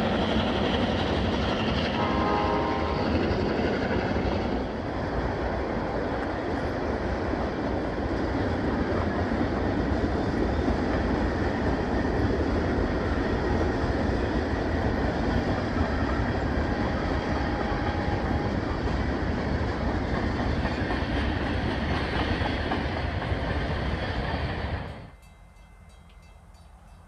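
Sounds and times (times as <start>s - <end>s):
freight train wheels on rails: 0.0s - 27.0s.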